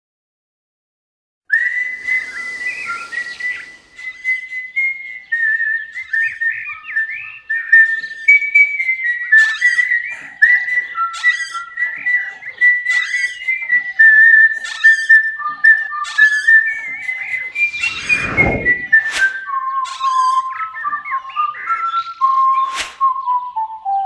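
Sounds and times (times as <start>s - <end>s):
whistled melody: 1.5s - 24.0s.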